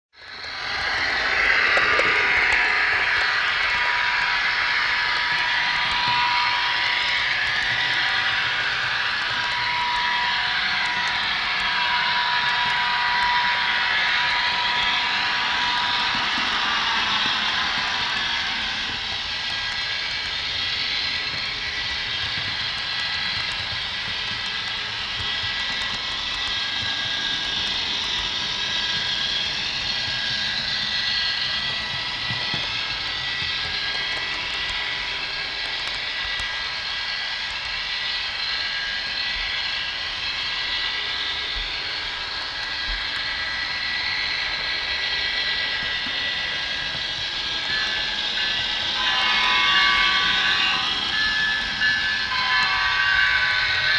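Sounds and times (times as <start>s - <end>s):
model train wheels on rails: 0.1s - 53.9s.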